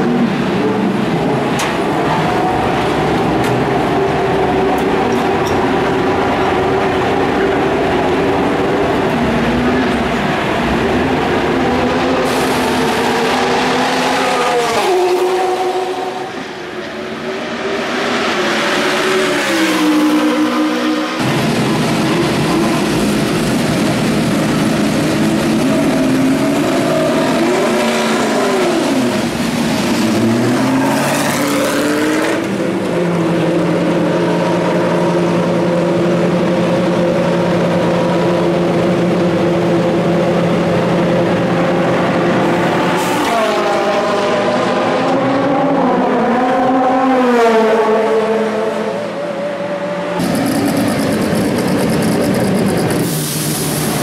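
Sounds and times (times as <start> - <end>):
race car engine revving: 0.2 - 54.0.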